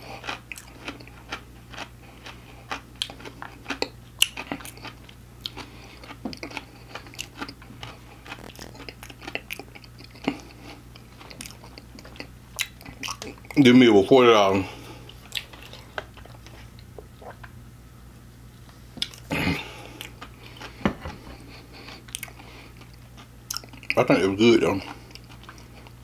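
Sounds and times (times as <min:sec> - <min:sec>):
chewing fried food: 0:00.0 - 0:13.8, 0:14.6 - 0:17.6, 0:19.0 - 0:26.0.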